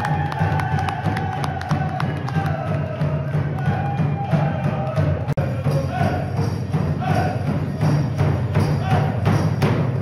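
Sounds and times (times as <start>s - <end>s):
steady drumbeat: 0.0s - 10.0s
people singing: 0.7s - 9.4s.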